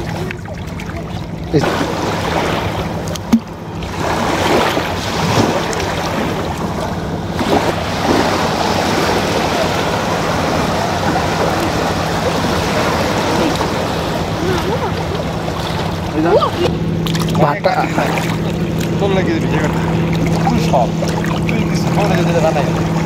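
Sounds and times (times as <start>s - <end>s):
small waves washing on riverbank: 0.0s - 23.0s.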